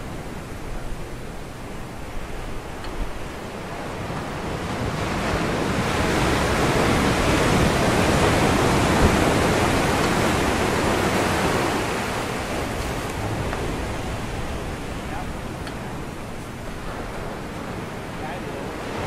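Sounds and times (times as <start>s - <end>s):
ocean wave breaking: 0.0s - 19.0s.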